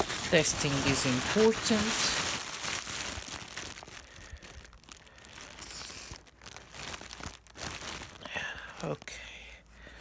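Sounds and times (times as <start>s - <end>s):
rustling: 0.0s - 9.0s.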